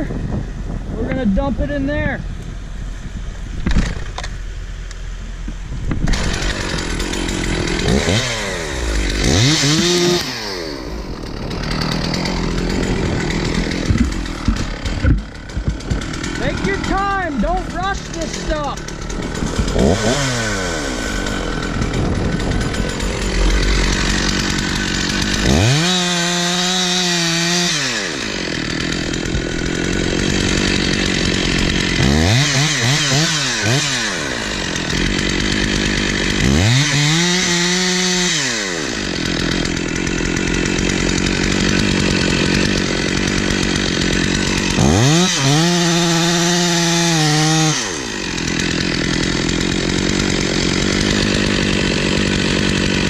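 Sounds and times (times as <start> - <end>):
chainsaw revving in a cut: 6.1 - 53.0.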